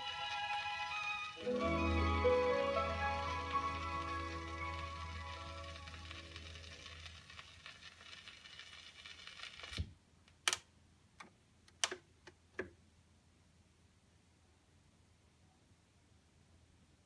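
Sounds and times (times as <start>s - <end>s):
record surface hiss and crackle: 0.0s - 17.0s.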